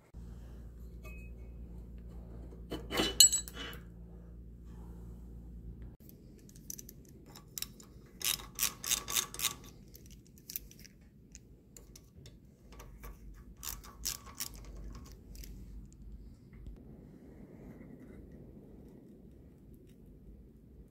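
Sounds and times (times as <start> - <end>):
low steady hum: 0.0 - 20.9.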